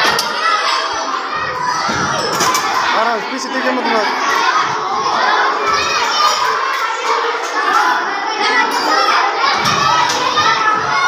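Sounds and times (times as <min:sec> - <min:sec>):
children talking and shouting: 0:00.0 - 0:11.0.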